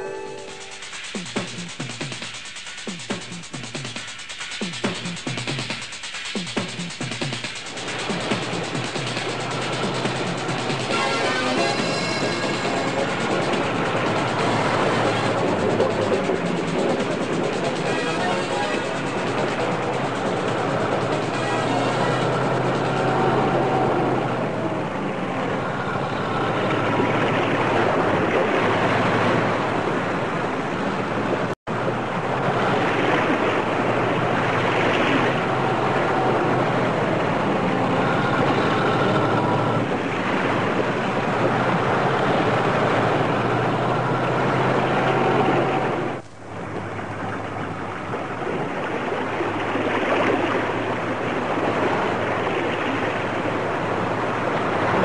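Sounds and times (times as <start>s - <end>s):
water rushing and splashing: 0.0s - 55.0s
truck engine droning: 7.3s - 55.0s.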